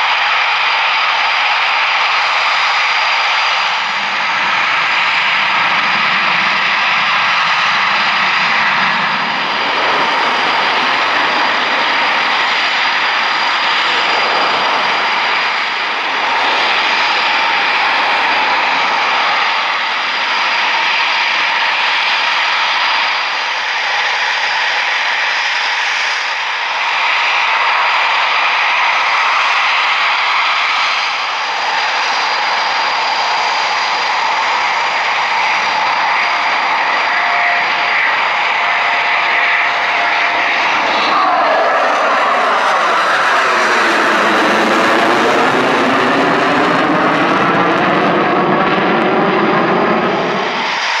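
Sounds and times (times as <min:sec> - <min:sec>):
jet engines roaring with whine: 0:00.0 - 0:51.0.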